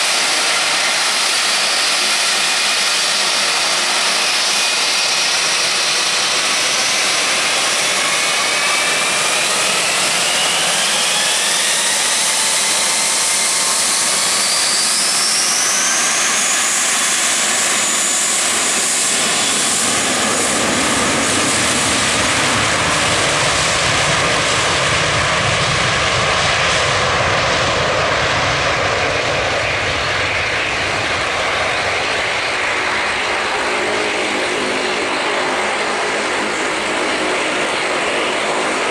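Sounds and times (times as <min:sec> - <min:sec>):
deep jet engine rumble: 0:00.0 - 0:38.9
jet engine whine: 0:00.0 - 0:38.9.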